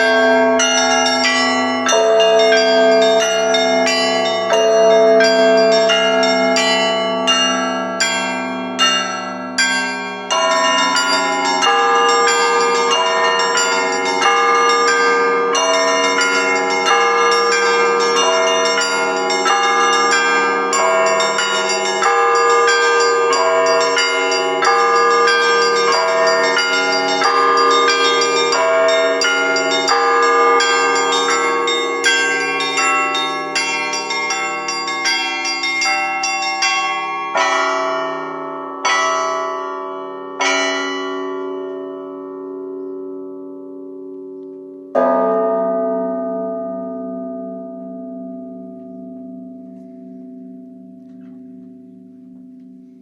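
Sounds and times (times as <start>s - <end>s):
large bells ringing: 0.0s - 53.0s.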